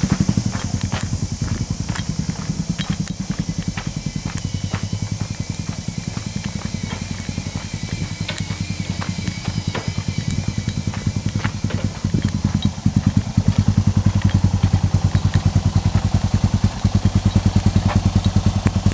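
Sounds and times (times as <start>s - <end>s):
motorcycle engine pulsing: 0.0s - 18.9s.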